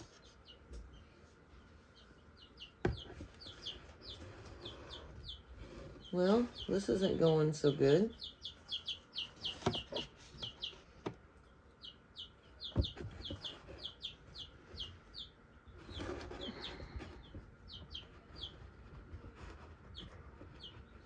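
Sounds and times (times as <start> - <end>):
bird peeping: 0.0 - 21.0.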